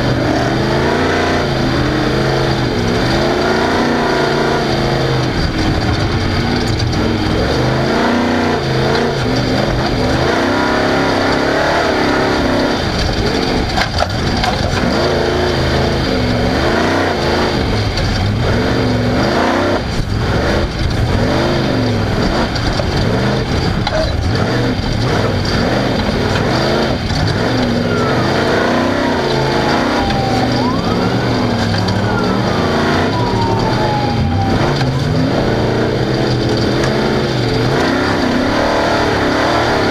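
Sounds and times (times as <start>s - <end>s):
race vehicle engine revving: 0.0s - 39.9s.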